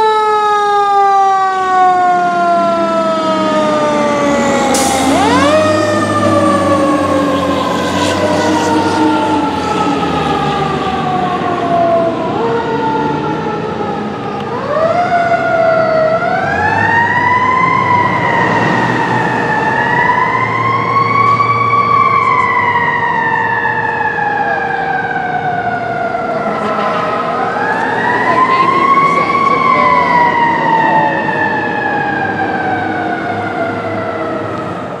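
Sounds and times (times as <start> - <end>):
fire engine siren wailing: 0.0 - 35.0.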